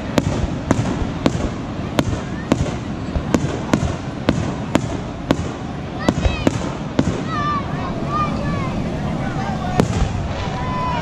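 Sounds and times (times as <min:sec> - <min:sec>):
fireworks bangs: 0:00.0 - 0:11.0
steady background hiss: 0:00.0 - 0:11.0.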